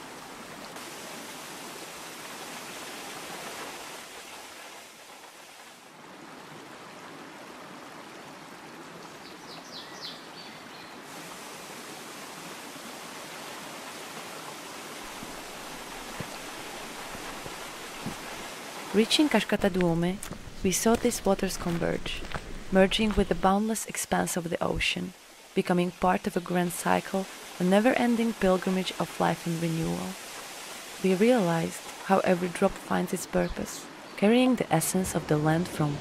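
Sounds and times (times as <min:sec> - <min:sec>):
water rushing over rocks: 0:00.0 - 0:09.2, 0:11.1 - 0:23.5, 0:24.2 - 0:34.0.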